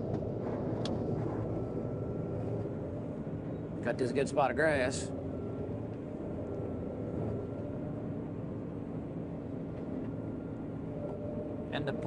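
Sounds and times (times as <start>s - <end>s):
combine engine and machinery hum: 0.0s - 12.0s
faint steady whine: 0.0s - 12.0s.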